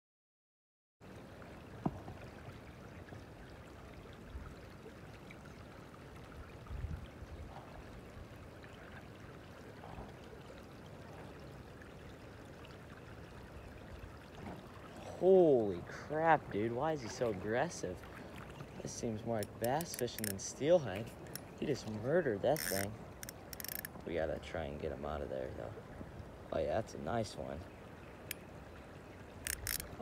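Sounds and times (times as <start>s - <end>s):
creek water running: 1.0s - 30.0s.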